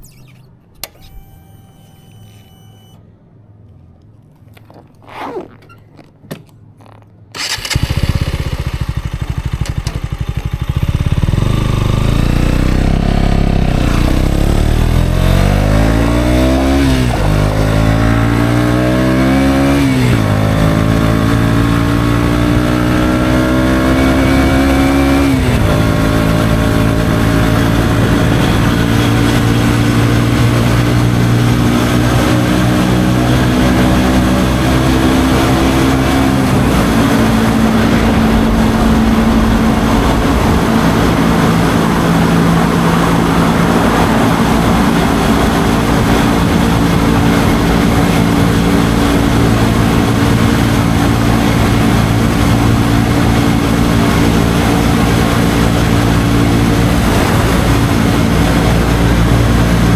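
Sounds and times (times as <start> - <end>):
motorcycle engine revving: 6.8 - 59.9.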